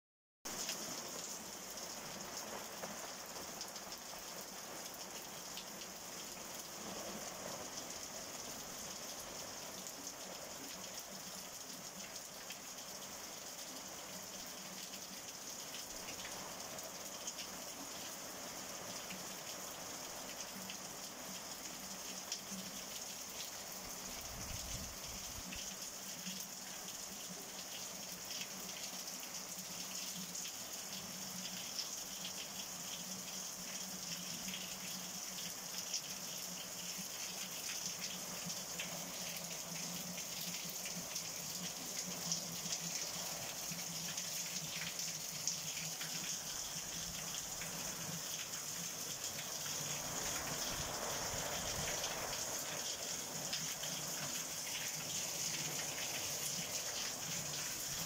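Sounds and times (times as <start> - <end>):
heavy rain falling on roofs: 0.5 - 58.0
water gushing off roofs: 0.5 - 58.0.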